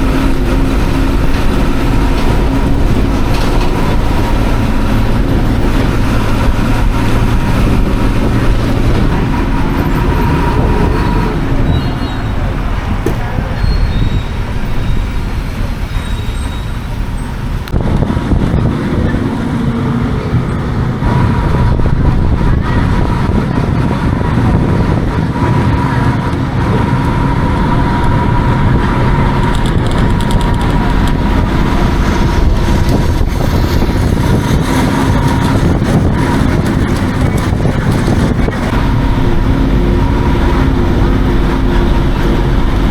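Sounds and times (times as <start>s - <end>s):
bus engine running: 0.0s - 42.9s
steady whine: 0.0s - 42.9s.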